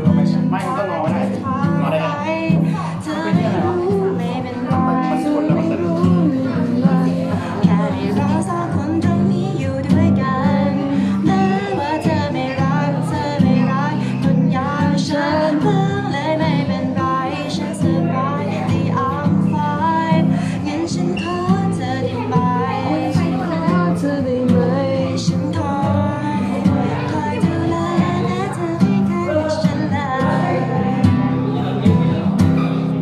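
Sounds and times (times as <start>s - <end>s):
man singing a pop ballad: 0.0s - 32.8s
acoustic guitar strumming: 0.0s - 33.0s.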